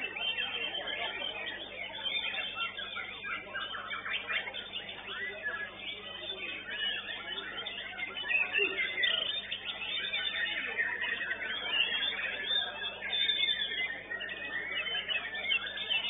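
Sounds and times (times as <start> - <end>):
bird song: 0.0 - 16.0
other birds chirping: 0.0 - 16.0.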